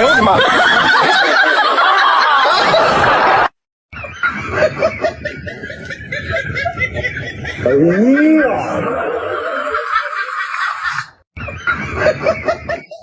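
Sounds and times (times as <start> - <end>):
canned laughter: 0.0 - 13.0.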